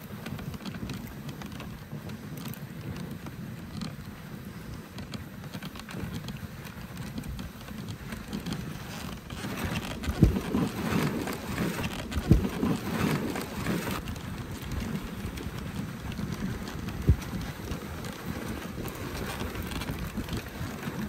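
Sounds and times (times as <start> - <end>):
sled runners hissing on snow: 0.0 - 21.0
sled thumps: 0.0 - 21.0.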